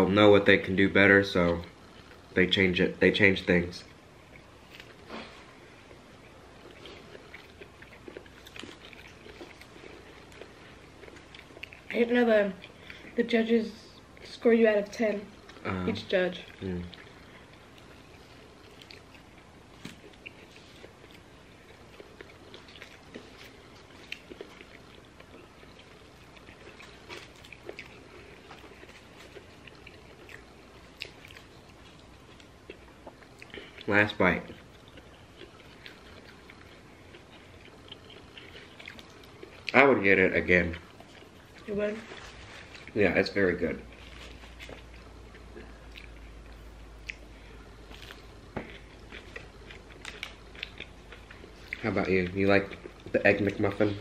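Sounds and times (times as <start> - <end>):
soft chewing and mouth clicks: 1.4 - 2.4, 3.8 - 54.0.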